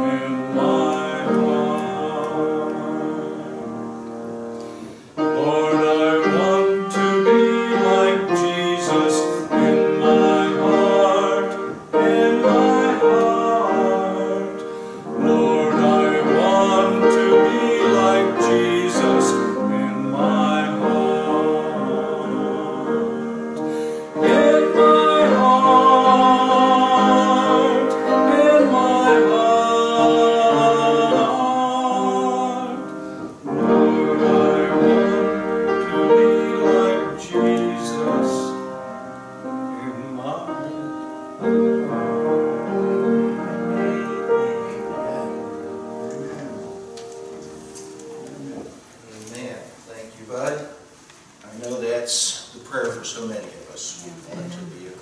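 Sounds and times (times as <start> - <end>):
person singing a hymn: 0.0 - 49.4
piano accompaniment: 0.0 - 55.0.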